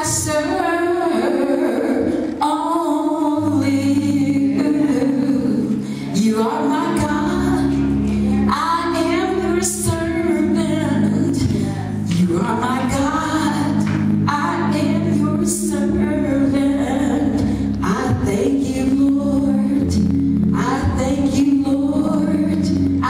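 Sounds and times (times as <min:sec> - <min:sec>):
low accompaniment chords: 0:00.0 - 0:23.0
woman singing: 0:00.0 - 0:23.0.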